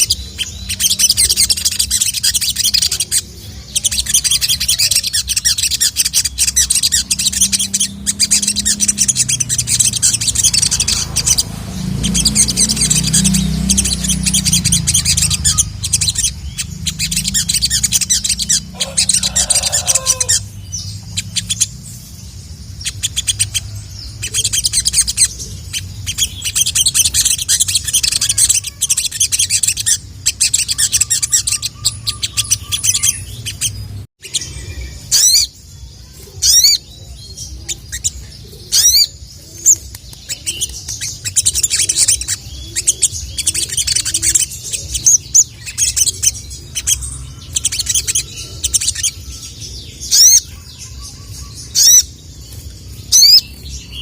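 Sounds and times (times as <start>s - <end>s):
bird chirping and trilling: 0.0s - 54.0s.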